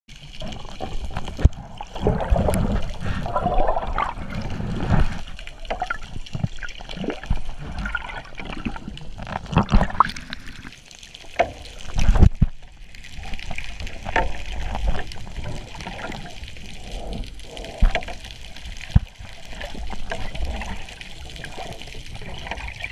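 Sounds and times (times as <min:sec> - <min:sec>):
seawater sloshing and bubbling: 0:00.1 - 0:22.9.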